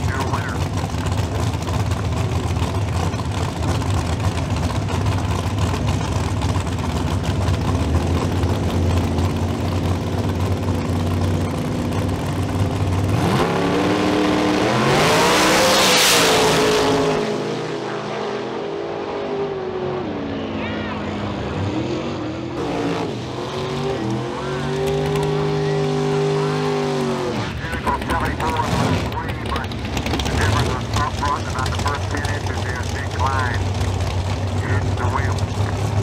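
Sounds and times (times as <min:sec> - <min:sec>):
drag racing engines revving: 0:00.0 - 0:36.0.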